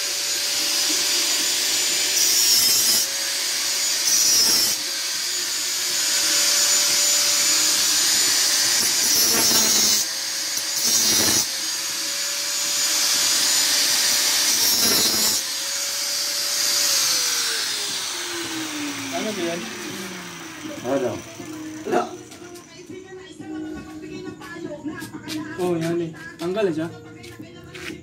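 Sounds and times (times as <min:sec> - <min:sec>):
grinder disc spinning down: 0:00.0 - 0:22.9
angle grinder grinding metal: 0:00.0 - 0:23.0.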